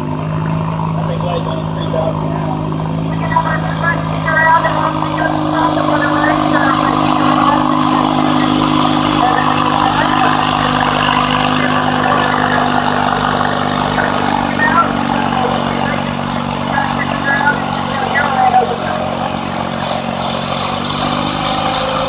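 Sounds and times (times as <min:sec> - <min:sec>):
garden tractor engine running: 0:00.0 - 0:22.0.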